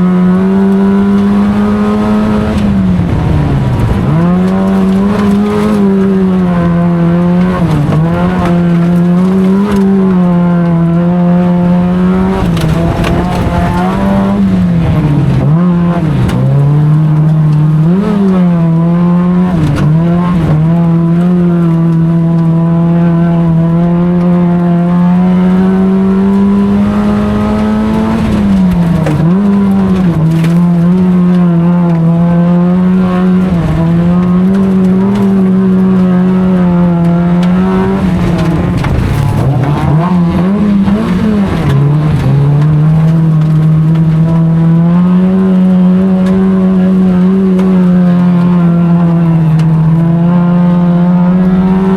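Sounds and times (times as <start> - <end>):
race car engine at high revs: 0.0 - 51.9.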